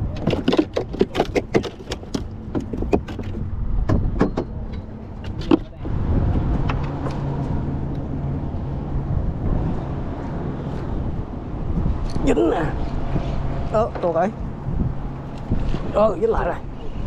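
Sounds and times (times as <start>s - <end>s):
steady low rumble: 2.2s - 17.0s.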